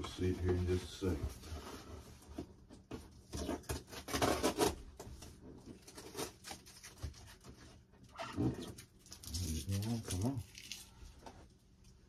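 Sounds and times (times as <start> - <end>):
cardboard rustling and scraping: 0.0 - 10.3.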